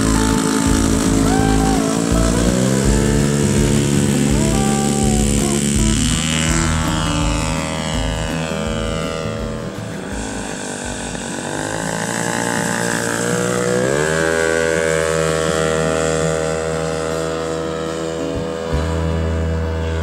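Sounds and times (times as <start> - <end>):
model plane engine and propeller: 0.0 - 20.0.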